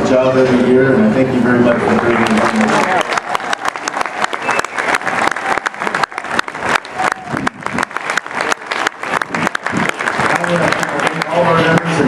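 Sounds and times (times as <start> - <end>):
crowd applauding: 1.7 - 12.0.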